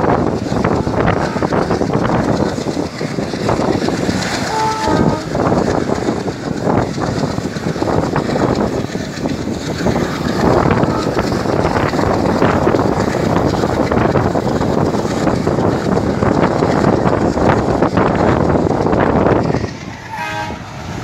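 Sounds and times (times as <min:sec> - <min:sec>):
train wheels rumbling on rails: 0:00.0 - 0:21.0
wind rushing over microphone: 0:00.0 - 0:21.0.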